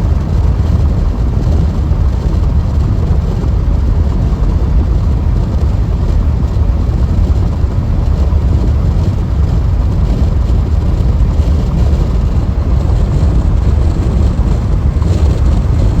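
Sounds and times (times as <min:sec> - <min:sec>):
car tyre and road rumble: 0:00.0 - 0:16.0.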